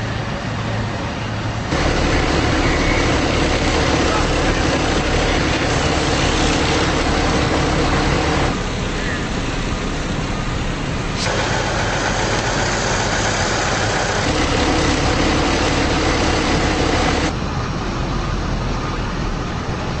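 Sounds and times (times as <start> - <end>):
fire engine idling: 0.0 - 20.0.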